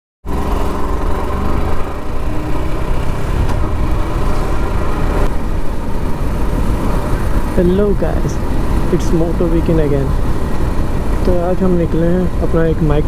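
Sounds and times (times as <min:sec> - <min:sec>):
motorcycle engine running: 0:00.2 - 0:13.0.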